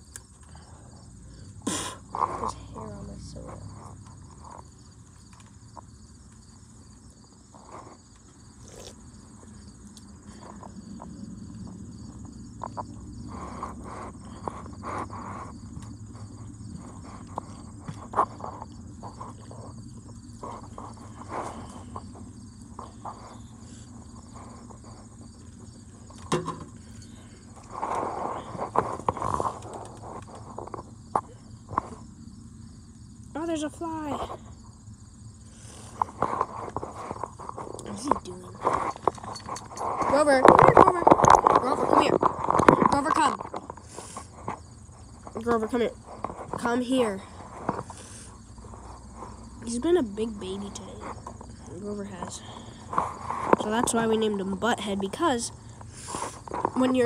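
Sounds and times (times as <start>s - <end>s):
insect chirring: 0.0s - 57.0s.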